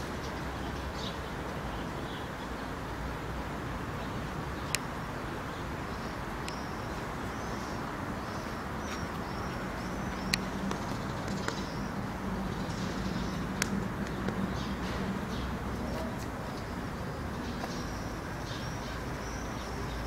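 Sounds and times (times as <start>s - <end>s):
small birds chirping: 0.0s - 3.3s, 3.9s - 20.0s
distant traffic rumble: 0.0s - 20.0s.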